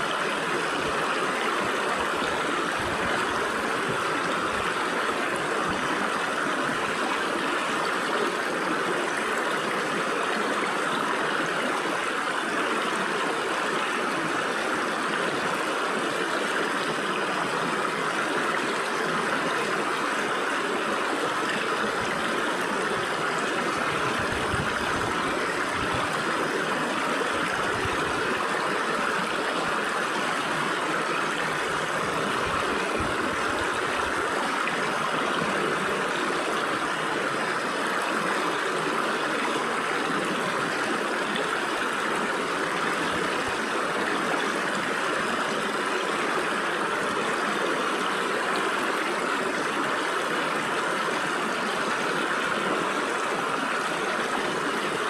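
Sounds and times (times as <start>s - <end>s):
stream water flowing over rocks: 0.0s - 55.0s.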